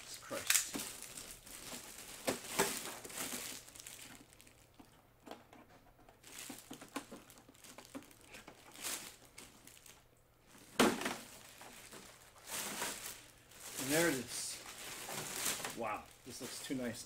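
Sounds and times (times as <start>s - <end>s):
plastic bag crinkling: 0.0s - 5.0s, 5.9s - 17.0s.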